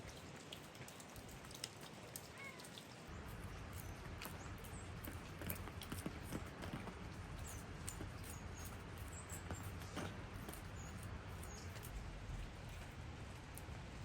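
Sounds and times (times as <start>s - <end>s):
rain pattering and dripping: 0.0s - 14.0s.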